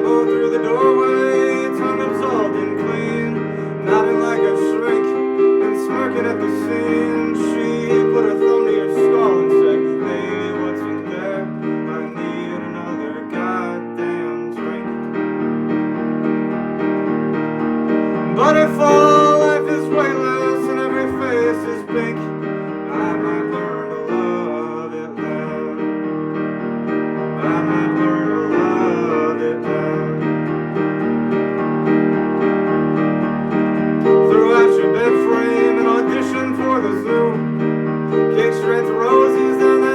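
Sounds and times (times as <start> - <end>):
keyboard playing held chords: 0.0 - 39.9.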